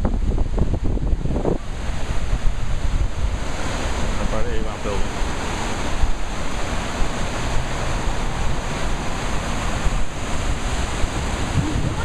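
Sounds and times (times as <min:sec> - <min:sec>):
rushing river: 0:00.0 - 0:12.0
wind buffeting microphone: 0:00.0 - 0:12.0.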